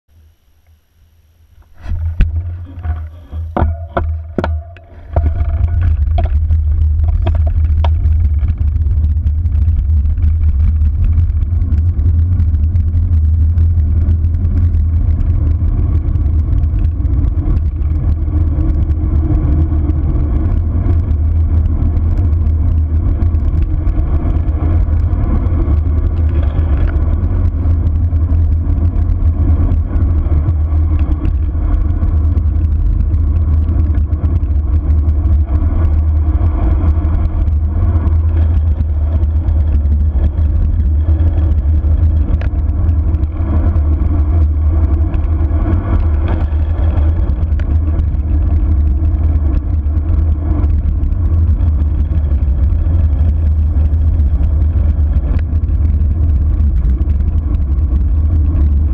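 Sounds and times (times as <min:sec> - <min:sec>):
tyre road noise: 0:00.0 - 0:58.9
wind buffeting microphone: 0:01.7 - 0:58.9.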